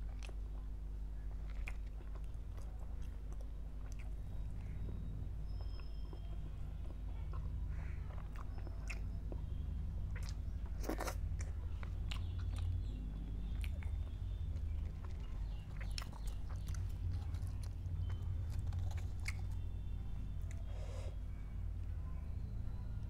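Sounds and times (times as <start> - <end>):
wet chewing and mouth sounds: 0.0 - 21.0
steady low hum: 0.0 - 23.0.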